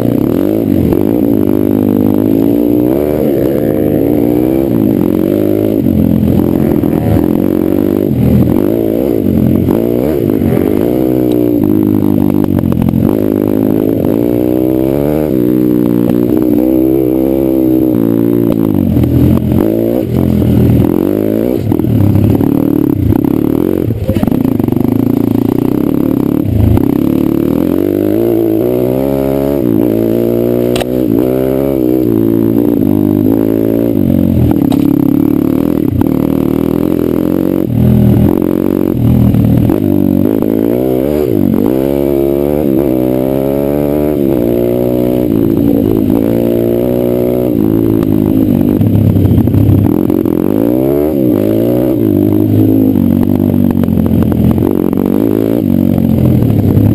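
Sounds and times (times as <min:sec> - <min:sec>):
pit bike engine revving: 0:00.0 - 0:56.9.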